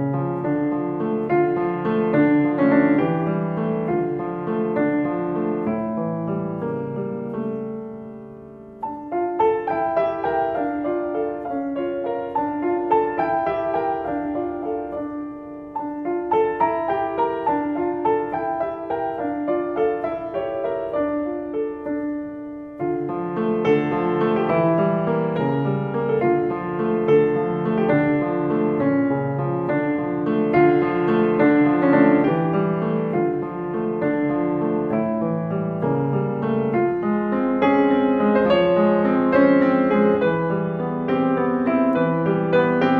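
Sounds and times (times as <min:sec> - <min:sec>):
slow solo piano music: 0:00.0 - 0:42.9.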